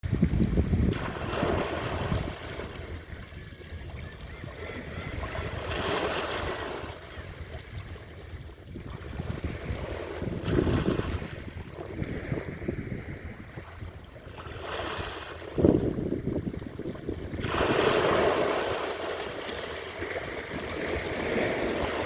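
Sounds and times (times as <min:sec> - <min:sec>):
sea waves washing in: 0:00.0 - 0:03.8, 0:05.4 - 0:22.0
wind buffeting microphone: 0:00.0 - 0:22.0.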